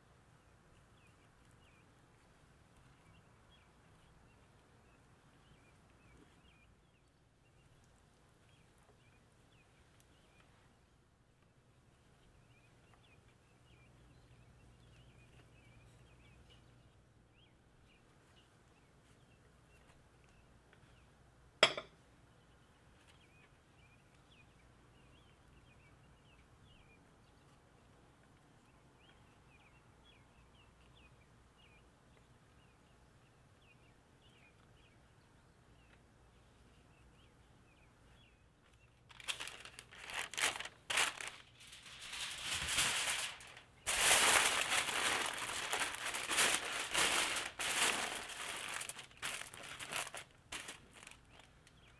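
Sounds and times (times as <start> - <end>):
faint small birds chirping: 0.0 - 51.9.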